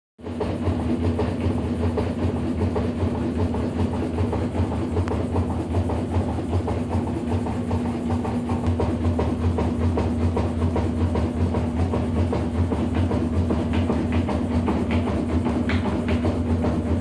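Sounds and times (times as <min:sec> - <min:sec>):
washing machine spinning: 0:00.2 - 0:17.0.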